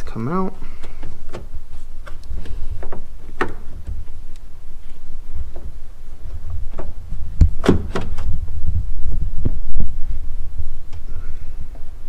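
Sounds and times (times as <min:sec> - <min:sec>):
handling noise rumble: 0:00.0 - 0:12.0.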